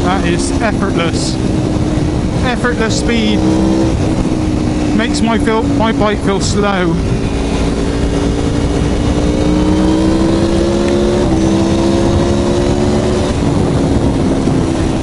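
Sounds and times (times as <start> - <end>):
motorcycle engine accelerating: 0.0 - 15.0
wind rush: 0.0 - 15.0.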